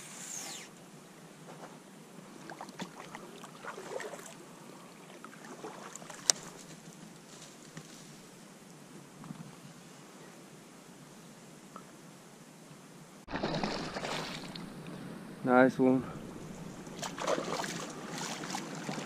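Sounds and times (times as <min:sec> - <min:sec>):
faint water around boat: 0:00.0 - 0:11.0, 0:13.3 - 0:19.0.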